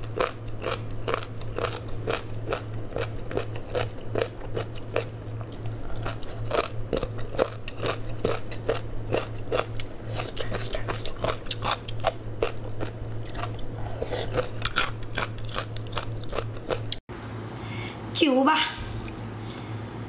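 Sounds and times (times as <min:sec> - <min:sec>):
person chewing crunchy food: 0:00.0 - 0:17.1.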